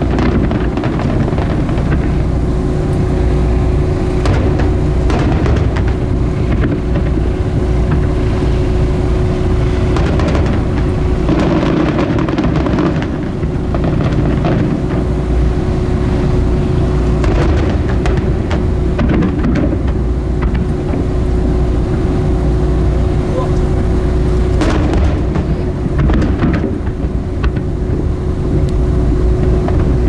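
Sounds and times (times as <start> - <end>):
boat engine humming: 0.0 - 30.0
fireworks booming and crackling: 0.0 - 30.0.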